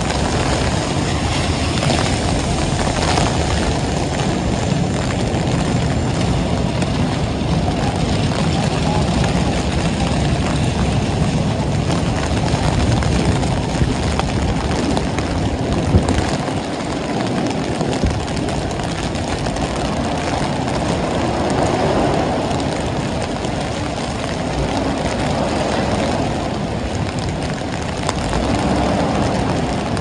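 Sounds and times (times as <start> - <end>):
heavy rain falling: 0.0 - 30.0
low rumble of traffic: 0.0 - 30.0.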